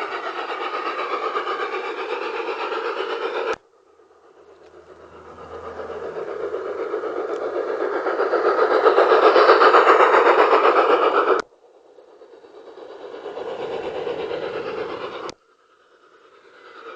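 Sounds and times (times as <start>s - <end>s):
model locomotive sound unit: 0.0s - 16.9s
model train wheels on track: 0.0s - 16.9s.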